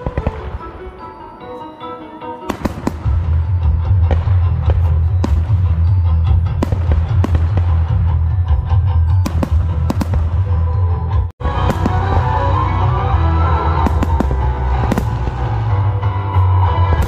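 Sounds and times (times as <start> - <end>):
fireworks bursting: 0.0 - 1.4, 2.5 - 8.3, 9.1 - 10.8, 11.4 - 17.0
music: 0.0 - 17.0.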